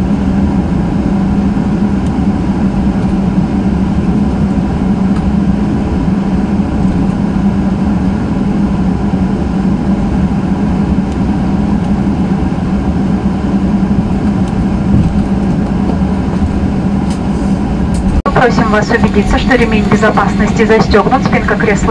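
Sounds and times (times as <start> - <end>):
airplane cabin engine hum: 0.0 - 21.9.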